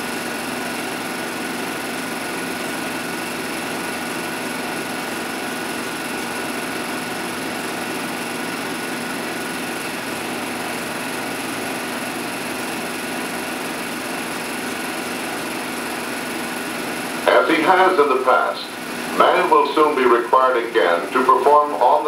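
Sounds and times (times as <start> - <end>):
film projector hiss and hum: 0.0 - 22.0.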